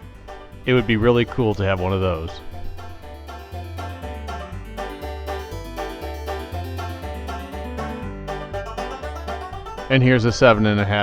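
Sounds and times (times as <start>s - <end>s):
bouncing bass line: 0.0s - 11.0s
upbeat banjo bluegrass tune: 0.0s - 11.0s.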